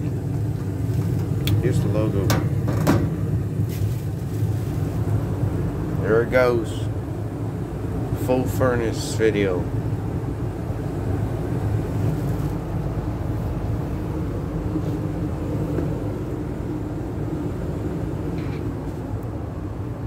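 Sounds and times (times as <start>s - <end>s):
gas furnace humming: 0.0s - 20.0s.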